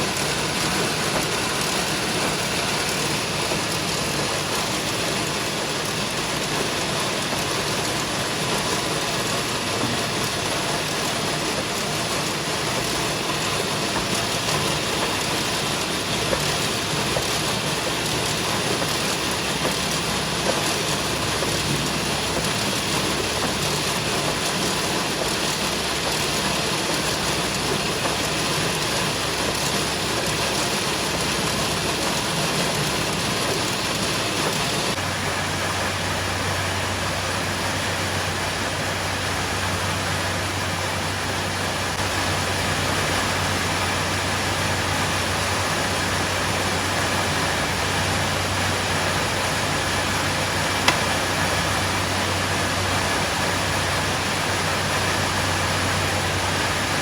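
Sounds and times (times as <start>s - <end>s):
steady machinery noise: 0.0s - 57.0s.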